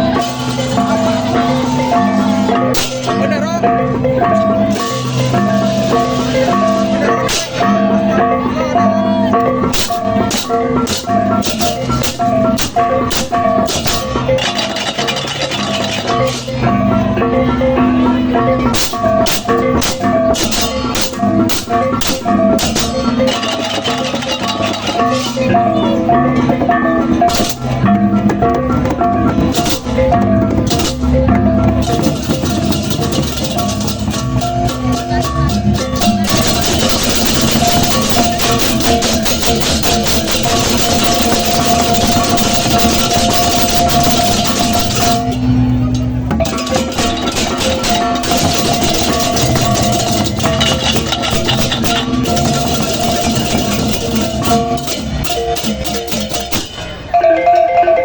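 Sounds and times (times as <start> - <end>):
gamelan music: 0.0 - 58.0.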